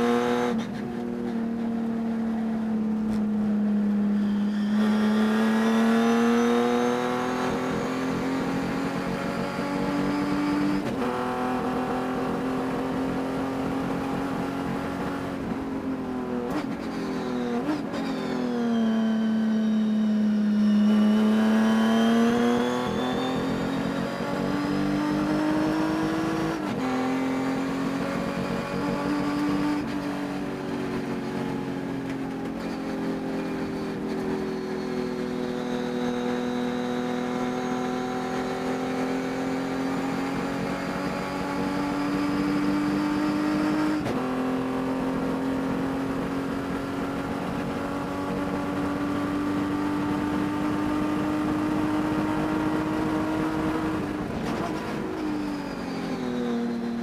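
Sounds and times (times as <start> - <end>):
race car engine at speed: 0.0 - 57.0.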